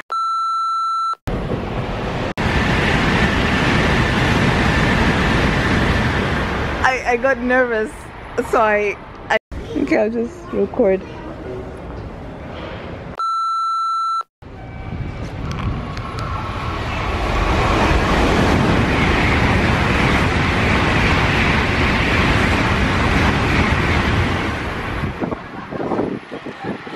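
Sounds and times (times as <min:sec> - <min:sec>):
train passing at speed: 0:01.3 - 0:13.2, 0:14.4 - 0:26.9.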